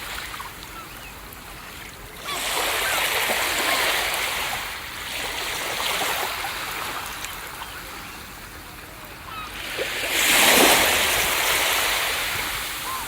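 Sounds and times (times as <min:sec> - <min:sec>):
surf washing on beach: 0:01.5 - 0:13.0.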